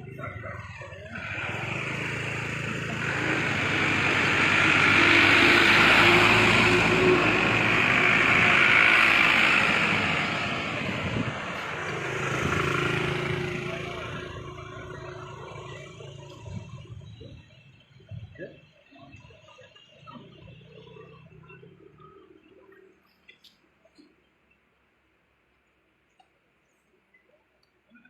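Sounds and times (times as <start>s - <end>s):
vehicle passing on road: 0.0s - 22.8s.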